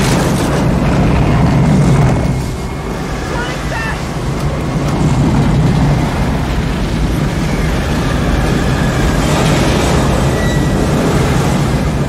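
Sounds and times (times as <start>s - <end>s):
deep rumble: 0.0s - 12.0s
roaring wind: 0.0s - 12.0s.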